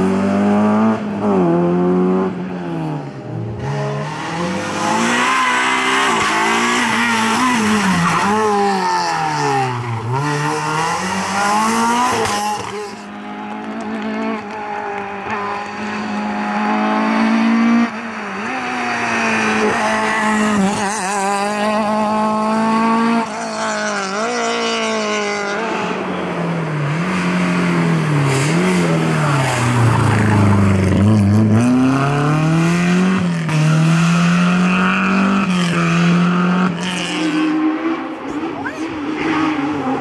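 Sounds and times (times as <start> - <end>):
rally cars passing at speed: 0.0 - 40.0.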